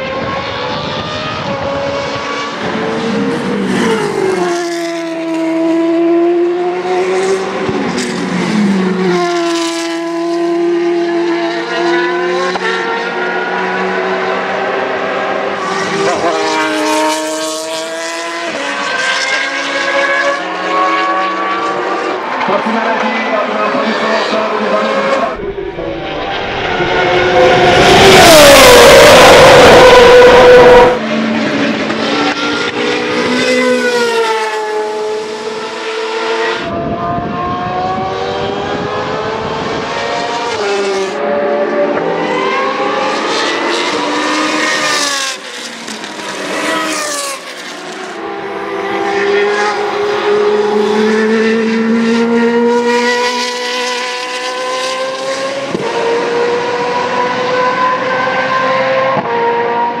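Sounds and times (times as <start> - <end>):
race car engine at high revs: 0.0 - 60.0.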